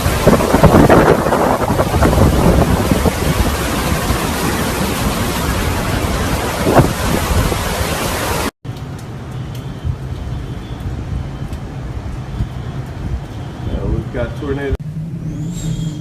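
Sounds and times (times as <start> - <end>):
wind and rain buffeting microphone: 0.0 - 15.2.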